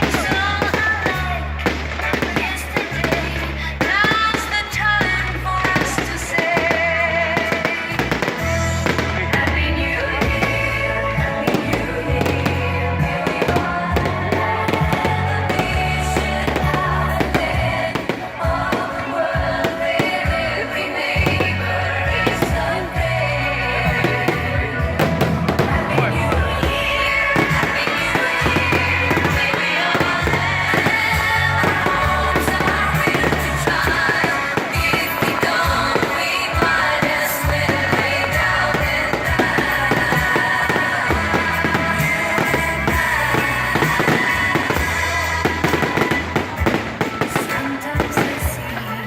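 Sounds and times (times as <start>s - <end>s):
fireworks banging and crackling: 0.0s - 49.0s
loud music with pulsing bass: 0.0s - 49.0s.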